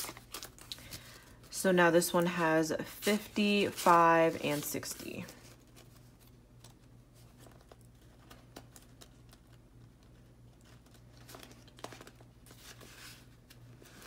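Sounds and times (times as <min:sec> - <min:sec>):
paper banknotes rustling: 0:00.0 - 0:14.0.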